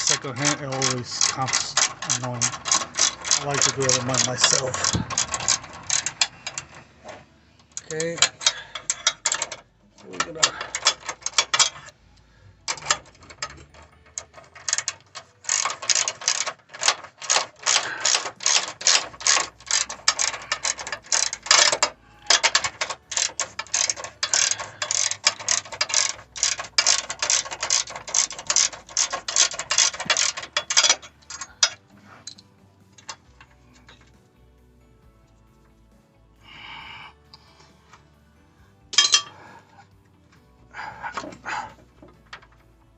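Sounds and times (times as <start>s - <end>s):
hand ratchet clicking: 0.0s - 34.2s, 38.9s - 42.8s.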